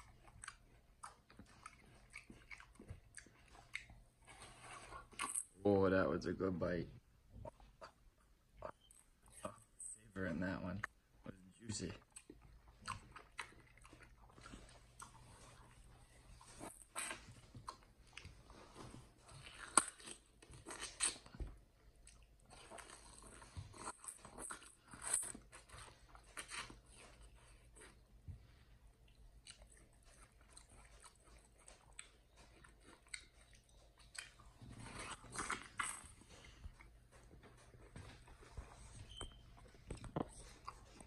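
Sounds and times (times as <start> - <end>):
chimpanzee crunching and chewing: 0.0 - 5.6, 11.6 - 28.2, 28.9 - 41.0.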